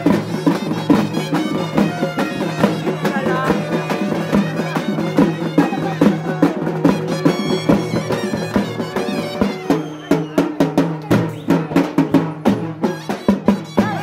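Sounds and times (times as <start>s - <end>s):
drums beating: 0.0s - 14.0s
reed pipe melody: 0.0s - 14.0s.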